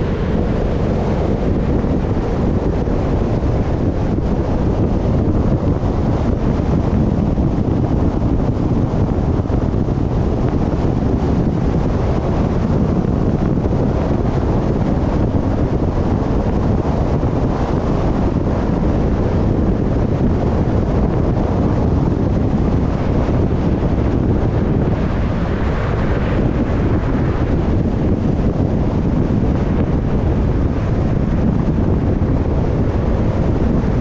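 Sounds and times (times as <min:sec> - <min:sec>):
road noise: 0:00.0 - 0:34.0
wind buffeting microphone: 0:00.0 - 0:34.0.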